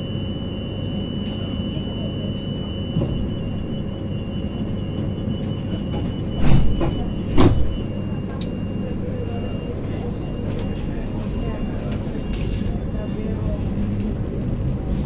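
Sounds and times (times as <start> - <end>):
high whine: 0.0 - 15.0
tram low hum: 0.0 - 15.0.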